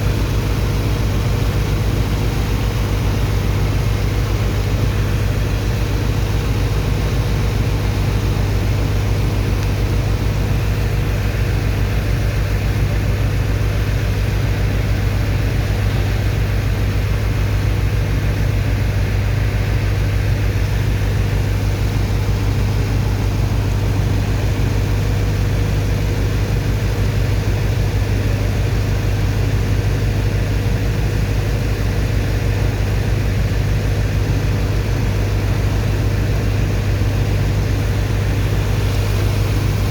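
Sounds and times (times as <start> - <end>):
faint steady hum: 0.0 - 39.9
heavy pump engine droning: 0.0 - 39.9.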